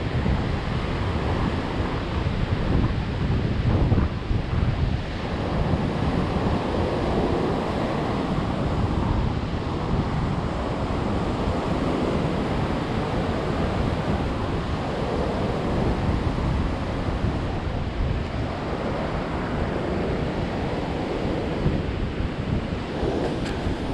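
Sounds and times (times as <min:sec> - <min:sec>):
ocean surf on pebble beach: 0:00.0 - 0:23.9
wind buffeting microphone: 0:00.0 - 0:23.9.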